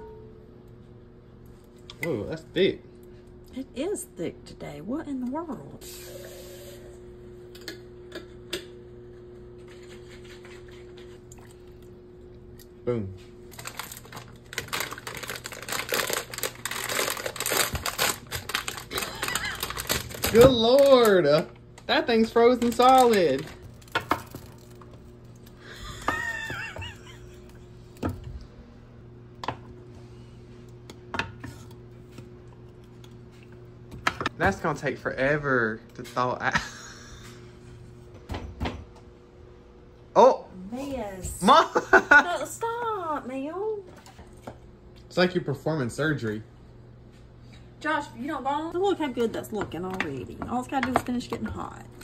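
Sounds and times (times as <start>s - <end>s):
steady hum from tap: 0.0s - 52.0s.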